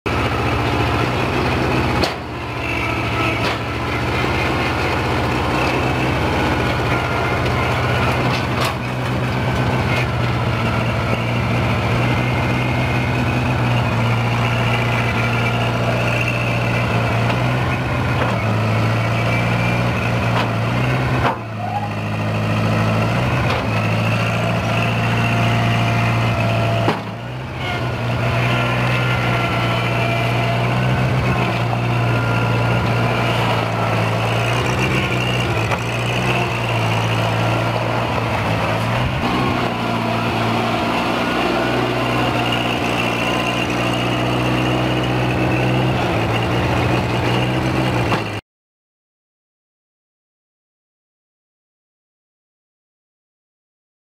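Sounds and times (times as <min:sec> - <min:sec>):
skid steer engine running: 0:00.1 - 0:48.4.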